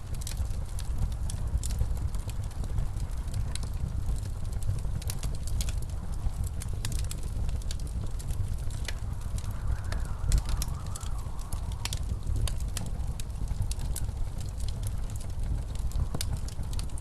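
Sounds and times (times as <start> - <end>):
blizzard wind rumbling: 0.0 - 17.0
wood fire crackling and popping: 0.0 - 17.0.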